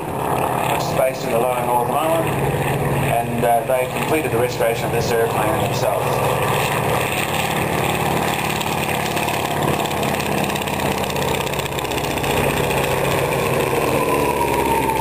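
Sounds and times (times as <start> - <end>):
aircraft piston engine flying past: 0.0 - 15.0.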